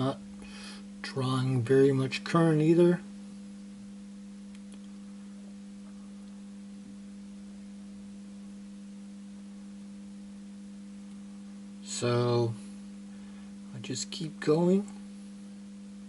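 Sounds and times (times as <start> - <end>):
transformer electrical hum: 0.0 - 16.0.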